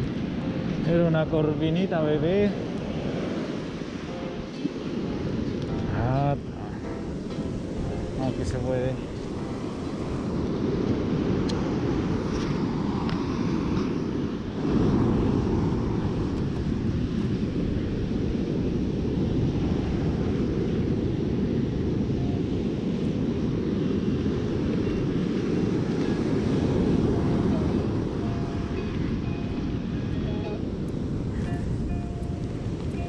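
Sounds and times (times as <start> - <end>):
surf breaking on beach: 0.0 - 33.0
wind buffeting microphone: 0.0 - 33.0.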